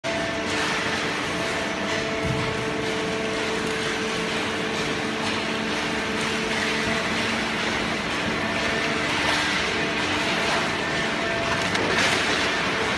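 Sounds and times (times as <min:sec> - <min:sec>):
baler machinery humming: 0:00.1 - 0:12.9.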